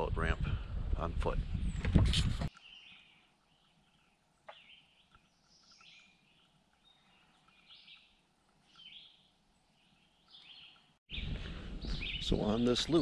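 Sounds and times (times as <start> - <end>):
faint songbird chirps: 2.5 - 13.0.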